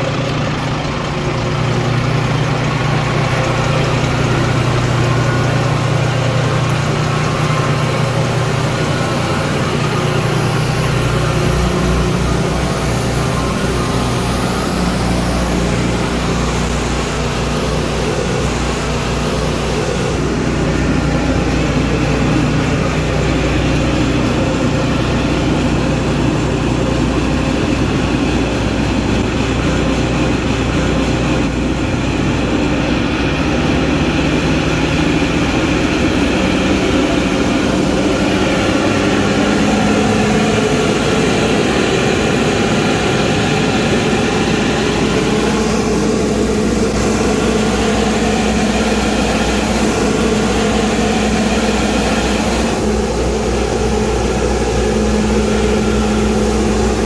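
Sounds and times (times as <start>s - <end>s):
vacuum truck engine drone: 0.0s - 57.0s.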